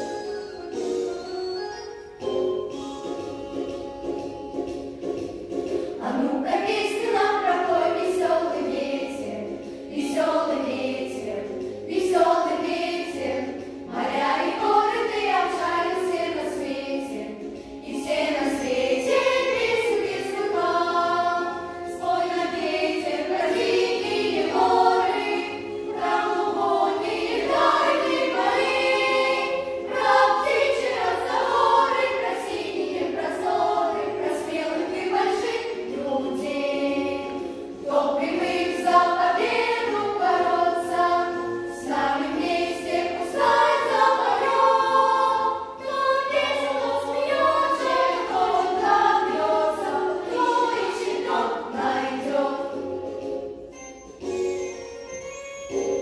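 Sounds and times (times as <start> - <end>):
children's choir singing: 0.0 - 1.1, 5.6 - 53.7.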